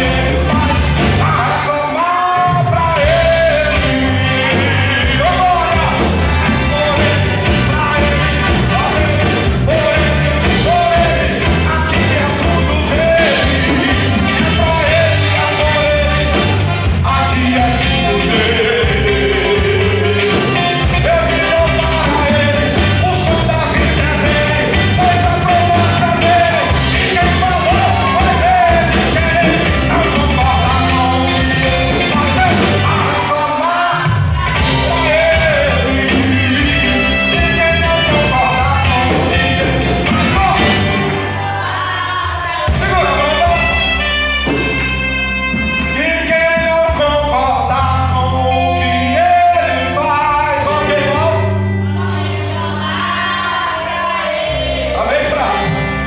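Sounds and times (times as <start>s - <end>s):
person singing: 0.0s - 56.0s
rock band playing: 0.0s - 56.0s.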